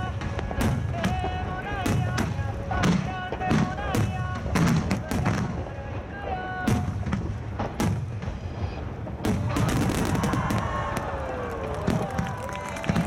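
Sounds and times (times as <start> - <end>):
fireworks bursting: 0.0 - 13.0
fireworks crackling: 0.0 - 13.0.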